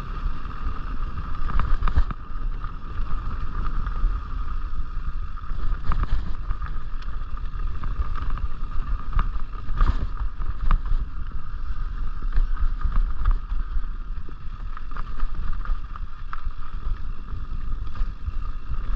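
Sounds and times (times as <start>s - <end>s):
wind rumble on microphone: 0.0s - 18.9s
bike clattering over bumps: 1.0s - 18.9s.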